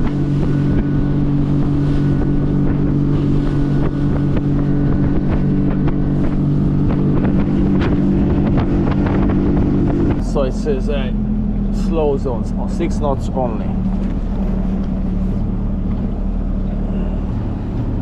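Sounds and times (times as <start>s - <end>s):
wind noise on microphone: 0.0s - 10.5s, 11.2s - 18.0s
outboard motor running: 0.0s - 18.0s.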